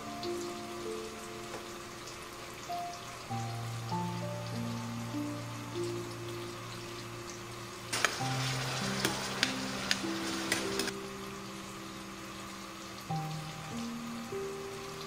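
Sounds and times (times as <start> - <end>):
soft background music: 0.0 - 15.0
stew sizzling in a skillet: 0.0 - 15.0.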